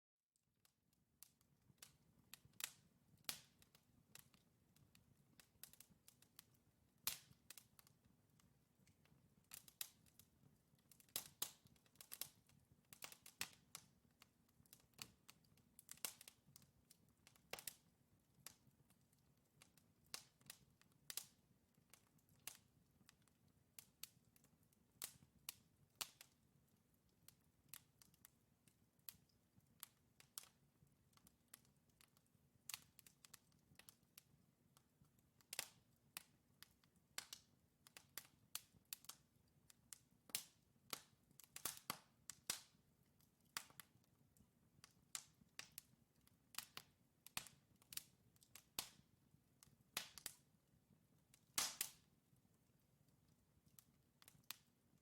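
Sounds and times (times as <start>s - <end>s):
wood fire crackling: 1.2s - 55.0s.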